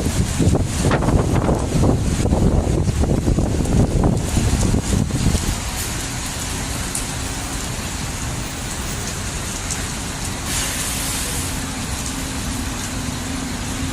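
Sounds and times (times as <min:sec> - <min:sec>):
road traffic engine hum: 0:00.0 - 0:13.9
wind and rain rushing: 0:00.0 - 0:13.9.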